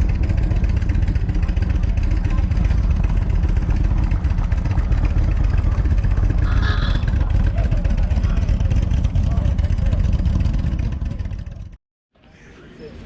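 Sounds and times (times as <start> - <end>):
motorcycle engine rumbling: 0.0 - 11.8.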